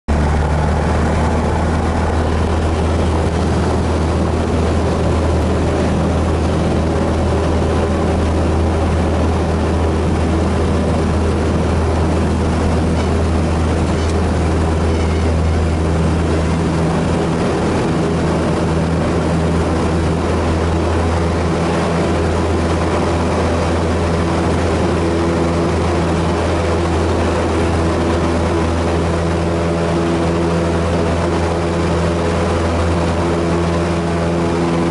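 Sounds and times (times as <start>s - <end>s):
propeller plane engine drone: 0.1s - 34.9s.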